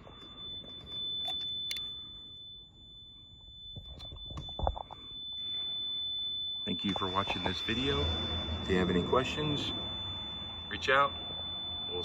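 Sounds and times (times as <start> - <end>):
fire alarm buzzer tone: 0.0 - 12.0.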